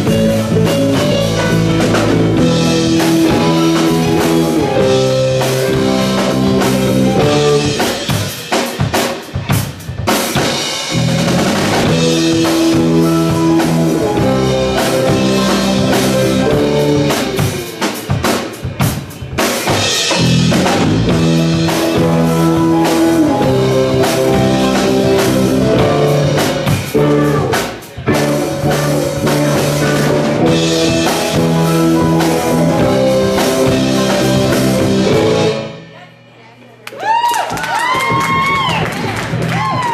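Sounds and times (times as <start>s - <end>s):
drum kit: 0.0s - 35.9s, 37.5s - 39.9s
live rock band playing: 0.0s - 36.0s.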